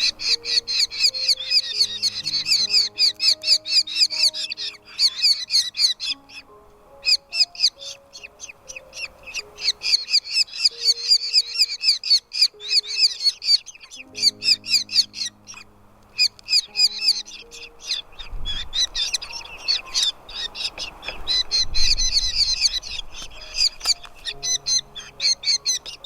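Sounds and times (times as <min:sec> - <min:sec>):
nestlings chirping shrilly: 0:00.0 - 0:26.0
soft background music: 0:00.0 - 0:26.0.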